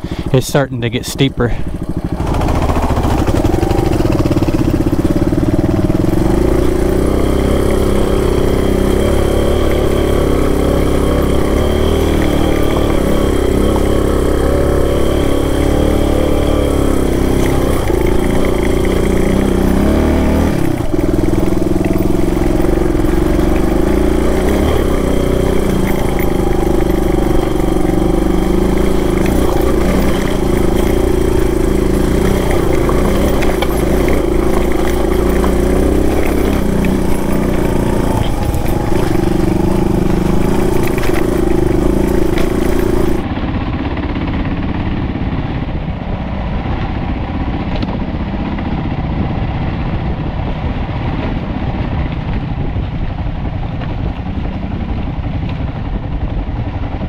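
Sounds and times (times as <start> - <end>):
motorcycle engine under load: 0.0 - 57.0.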